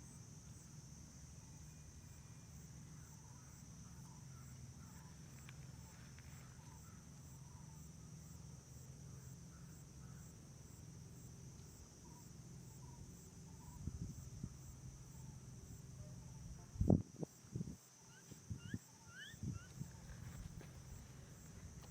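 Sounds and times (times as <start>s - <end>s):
insects chirring: 0.0s - 21.9s.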